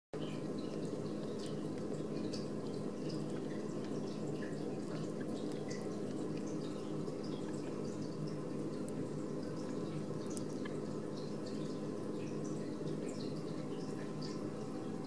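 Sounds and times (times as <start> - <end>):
kitten suckling wet clicks: 0.2 - 14.8
steady low hum: 0.2 - 15.0.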